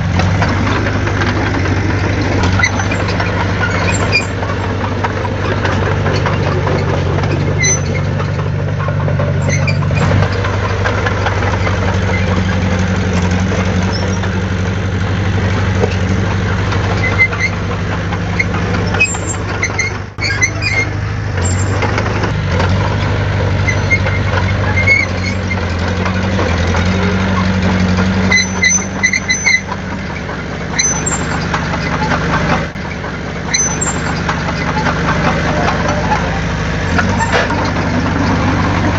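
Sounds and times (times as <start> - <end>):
heavy diesel engine running: 0.0 - 38.9
high squeaks: 0.2 - 14.6, 16.8 - 38.9.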